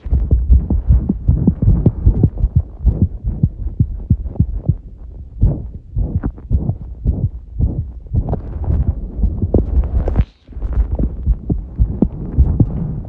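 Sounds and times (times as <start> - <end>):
fast heartbeat thumps: 0.0 - 13.0
low hum: 0.0 - 13.0.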